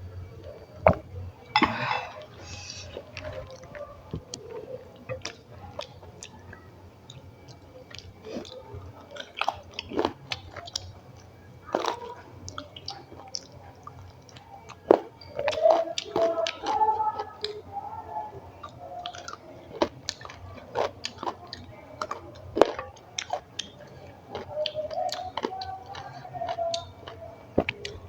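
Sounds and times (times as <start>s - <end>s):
food crunching: 0.2s - 17.7s, 18.4s - 28.0s
person chewing with mouth clicks: 1.6s - 17.6s, 18.6s - 28.0s.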